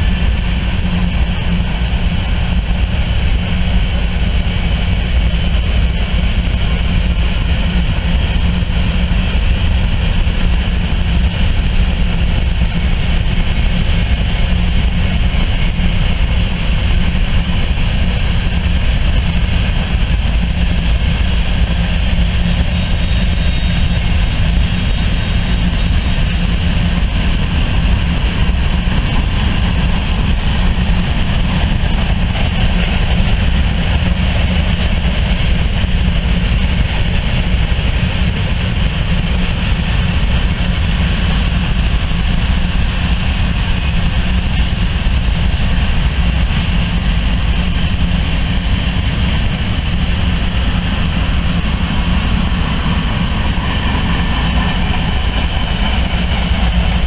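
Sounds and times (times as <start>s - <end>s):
train wheels running on rails: 0.0s - 57.0s.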